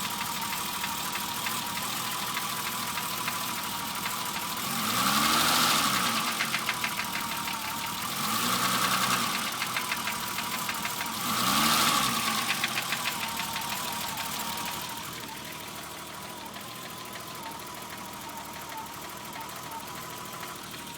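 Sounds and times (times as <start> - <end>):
car engine revving and idling: 0.0 - 20.9
rapid regular engine knock: 0.0 - 20.9.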